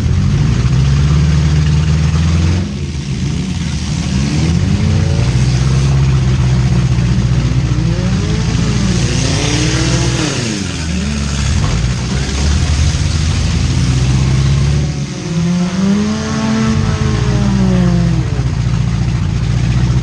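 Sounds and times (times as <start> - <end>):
car engines revving hard: 0.0 - 20.0.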